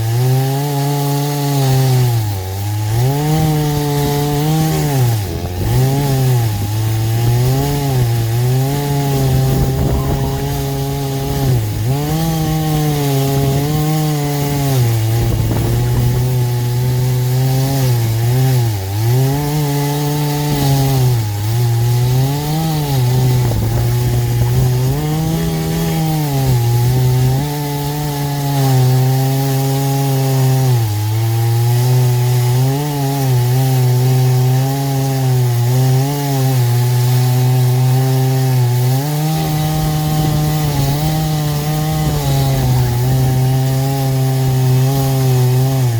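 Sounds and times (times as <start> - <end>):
chainsaw cutting log: 0.0 - 45.9.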